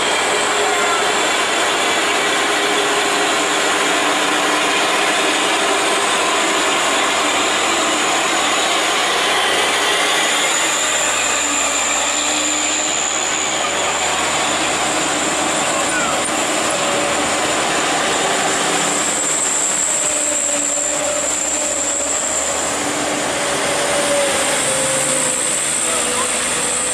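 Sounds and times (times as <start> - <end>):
heavy truck engine running: 0.0 - 26.9.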